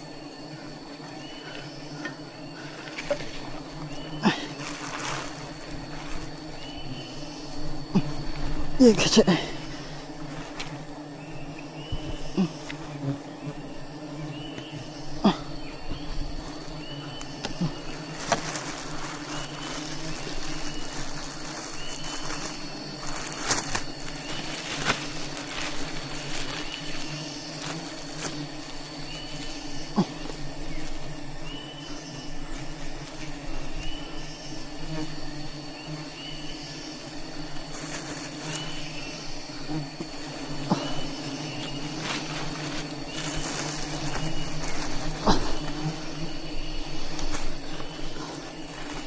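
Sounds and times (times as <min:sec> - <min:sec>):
bees buzzing: 0:00.0 - 0:49.0
high-pitched insect whine: 0:00.0 - 0:49.0.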